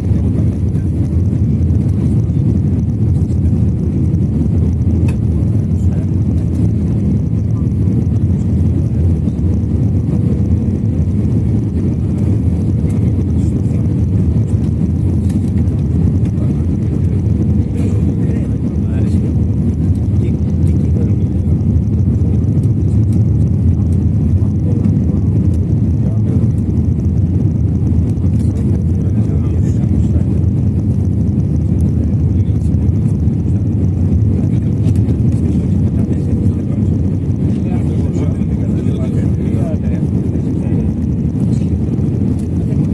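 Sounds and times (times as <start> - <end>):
airplane cabin rumble: 0.0 - 42.9
jet engine roar: 0.0 - 42.9.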